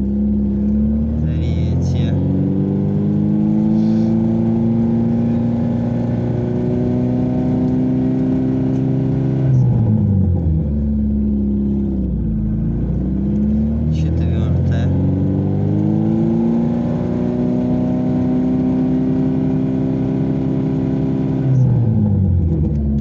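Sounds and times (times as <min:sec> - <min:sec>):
car engine revving through gears: 0:00.0 - 0:23.0.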